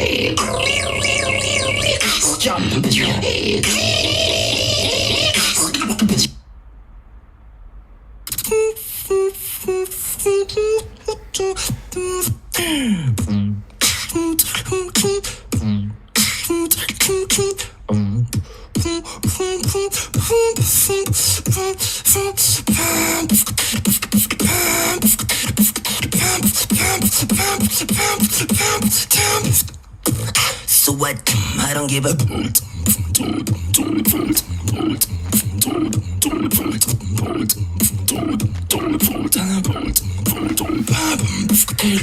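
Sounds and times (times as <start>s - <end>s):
person beatboxing: 0.0s - 6.4s, 8.3s - 42.0s
vocal downward sweep: 0.0s - 6.6s, 8.2s - 42.0s.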